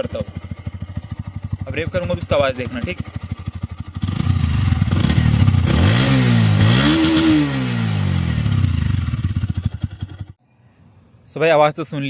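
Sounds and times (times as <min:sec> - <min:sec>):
motorcycle engine idling and revving: 0:00.0 - 0:10.4.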